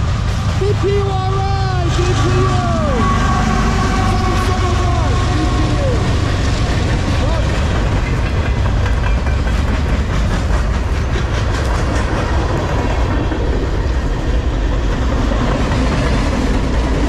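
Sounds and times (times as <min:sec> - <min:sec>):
clickety-clack over rail joints: 0:00.0 - 0:17.0
steel wheels rumbling on rail: 0:00.0 - 0:17.0.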